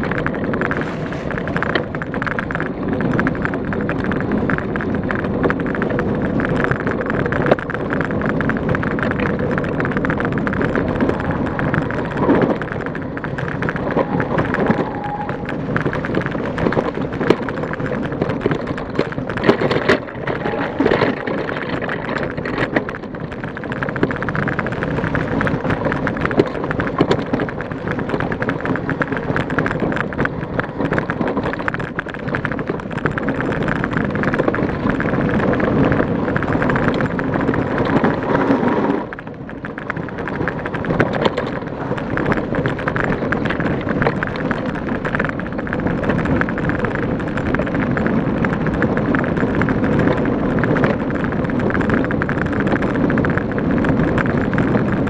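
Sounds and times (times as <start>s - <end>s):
bike rattling over bumps: 0.0s - 55.0s
bike tyres on dirt trail: 0.0s - 55.0s
wind on microphone: 0.0s - 55.0s.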